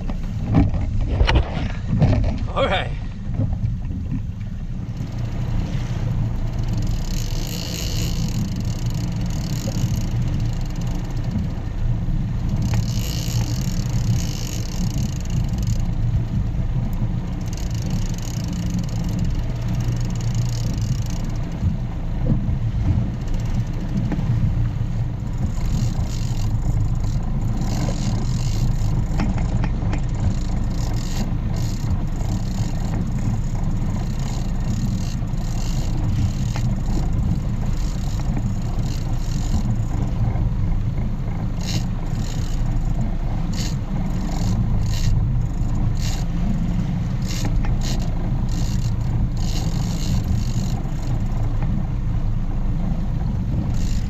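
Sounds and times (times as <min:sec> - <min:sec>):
small outboard motor running: 0:00.0 - 0:54.0
wind and water hissing: 0:00.0 - 0:54.0.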